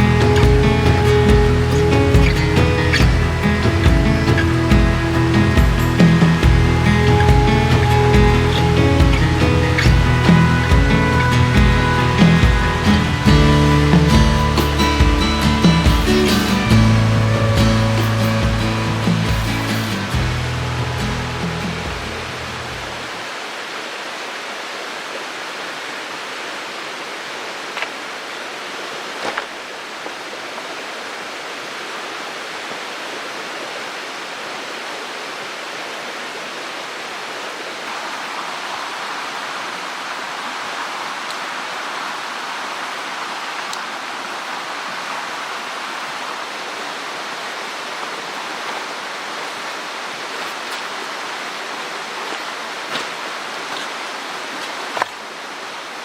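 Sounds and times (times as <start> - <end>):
mountain stream water rushing: 0.0 - 56.0.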